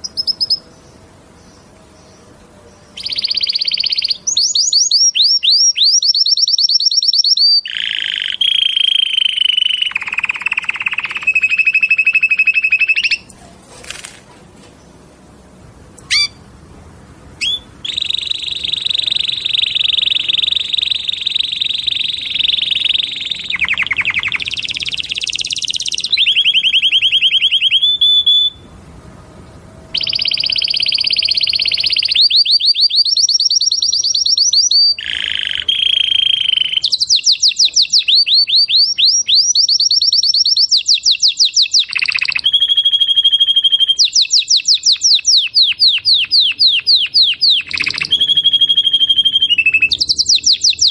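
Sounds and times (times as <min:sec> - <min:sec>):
canary singing: 0:00.0 - 0:13.4, 0:14.8 - 0:50.9.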